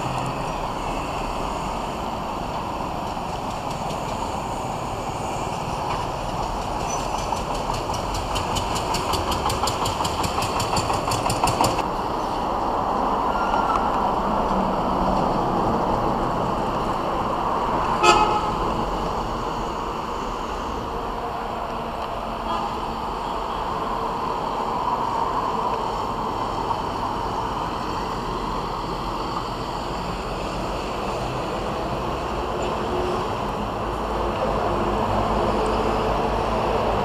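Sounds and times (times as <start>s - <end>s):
roadside traffic noise: 0.0s - 37.0s.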